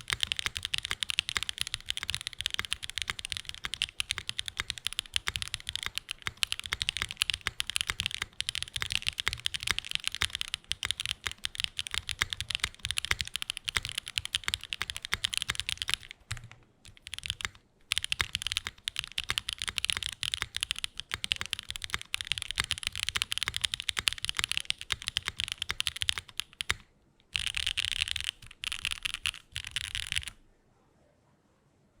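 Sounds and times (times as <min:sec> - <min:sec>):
fast mechanical keyboard typing: 0:00.0 - 0:30.4.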